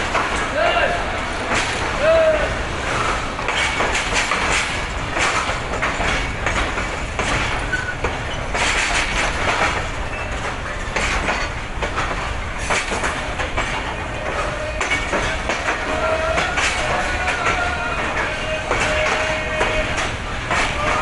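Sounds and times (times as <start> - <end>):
steady train rumble: 0.0 - 21.0
train wheels clicking over rail joints: 0.0 - 21.0.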